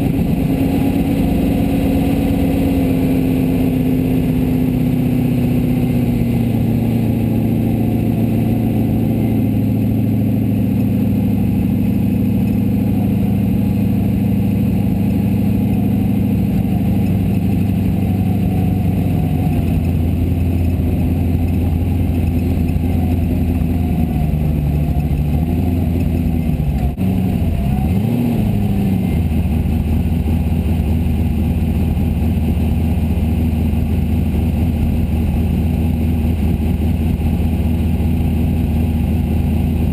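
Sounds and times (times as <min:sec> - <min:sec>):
buggy engine running: 0:00.0 - 0:39.9.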